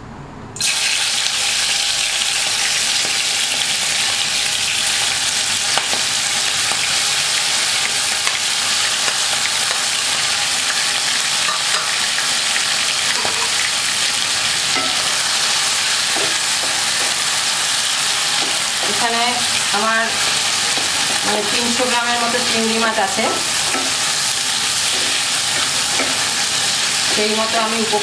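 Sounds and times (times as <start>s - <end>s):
prawns sizzling in hot oil: 0.6s - 28.0s.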